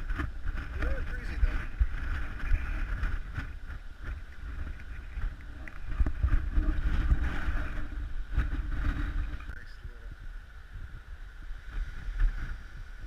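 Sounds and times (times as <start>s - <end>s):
steady outdoor hiss: 0.0s - 13.0s
wind buffeting microphone: 0.0s - 13.0s.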